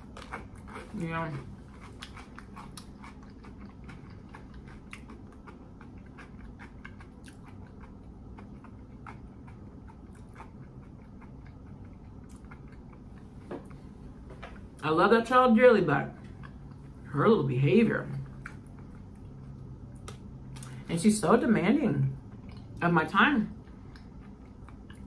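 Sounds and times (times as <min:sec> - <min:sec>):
person chewing food: 0:00.0 - 0:14.8, 0:16.2 - 0:17.1, 0:18.1 - 0:20.9, 0:22.2 - 0:22.8, 0:23.6 - 0:25.0.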